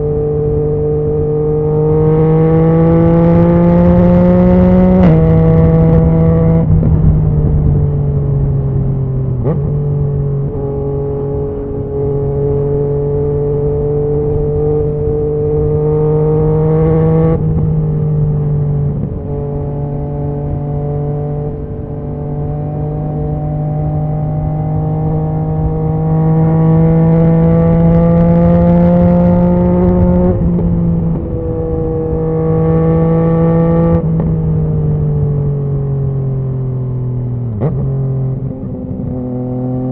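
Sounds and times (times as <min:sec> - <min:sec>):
motorcycle engine rising in pitch: 0:00.0 - 0:39.9.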